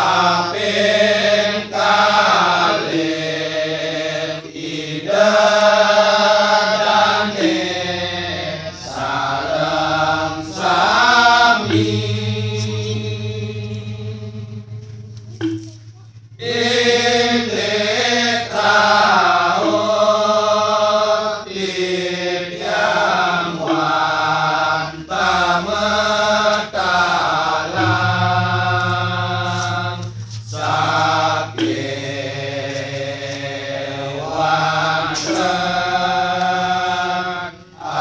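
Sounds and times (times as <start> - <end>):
men singing in chant-like style: 0.0 - 14.7, 16.4 - 38.0
low held drone: 0.0 - 38.0.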